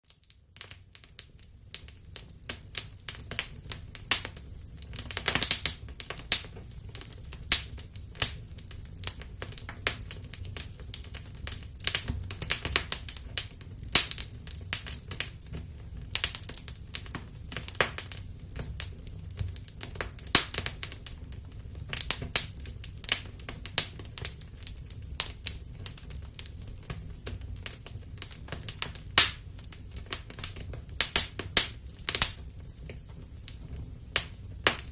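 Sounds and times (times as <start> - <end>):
low rumble of burning fire: 0.0 - 34.9
wood fire crackling: 0.0 - 34.9.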